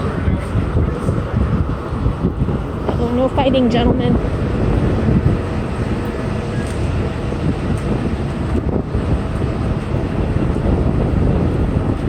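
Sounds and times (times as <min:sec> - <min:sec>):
city street rumble: 0:00.0 - 0:12.0
wind buffeting microphone: 0:00.0 - 0:12.0.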